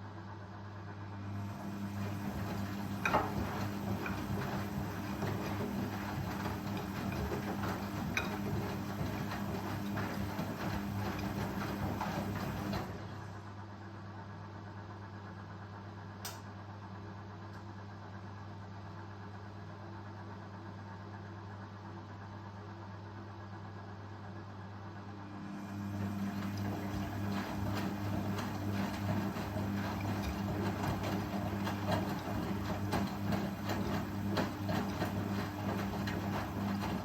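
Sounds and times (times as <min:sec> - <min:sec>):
washing machine motor hum: 0:00.3 - 0:19.6, 0:20.2 - 0:37.0.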